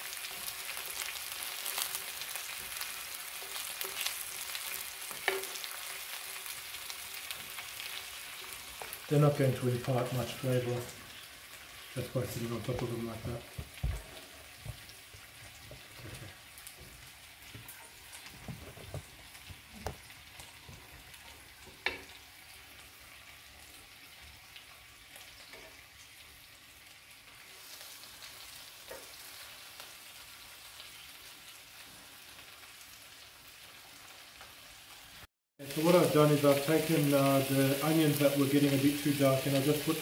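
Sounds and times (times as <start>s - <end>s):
meat and onions sizzling: 0.0s - 40.0s.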